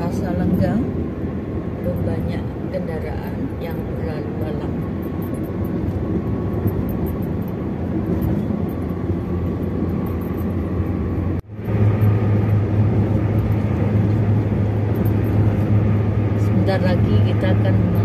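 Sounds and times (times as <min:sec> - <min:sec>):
car road noise: 0:00.0 - 0:18.0.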